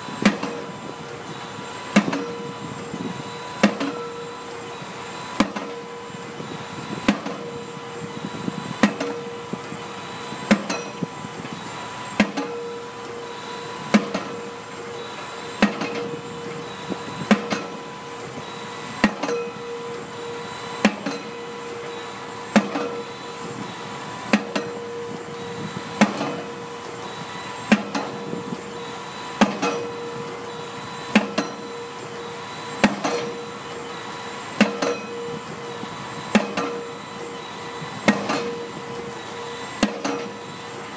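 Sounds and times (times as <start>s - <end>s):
machinery drone: 0.0s - 40.9s
pile-driving hammer blows: 0.1s - 0.8s, 1.9s - 2.6s, 3.3s - 4.3s, 5.3s - 5.9s, 6.9s - 7.6s, 8.8s - 9.4s, 10.0s - 11.6s, 12.2s - 17.9s, 19.0s - 40.6s.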